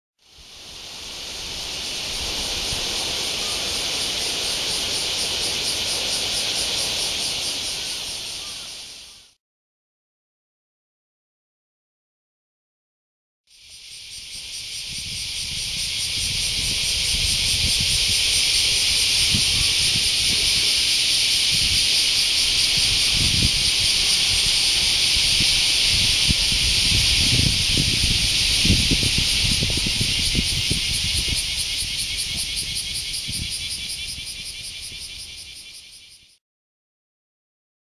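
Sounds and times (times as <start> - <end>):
cicada buzzing: 0.2 - 9.4, 13.5 - 36.4.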